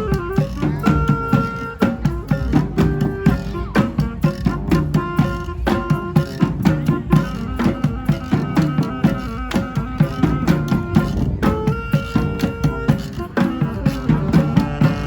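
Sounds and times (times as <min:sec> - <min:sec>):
street band playing: 0:00.0 - 0:15.0.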